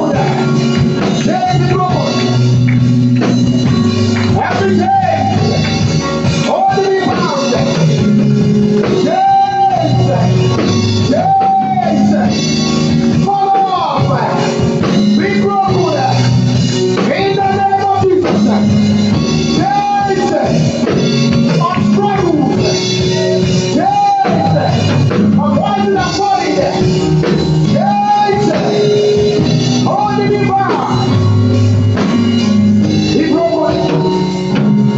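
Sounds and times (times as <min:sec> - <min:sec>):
church band music with singing: 0:00.0 - 0:34.9.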